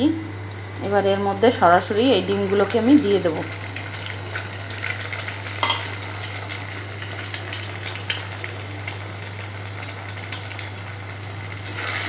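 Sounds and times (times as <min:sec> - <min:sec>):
eggs sizzling in hot oil: 0:00.5 - 0:12.0.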